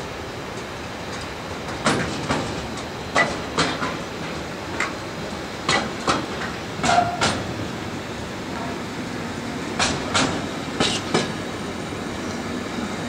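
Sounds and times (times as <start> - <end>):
freight train rumbling past: 0.0 - 13.0
train wheel clacks: 0.4 - 13.0.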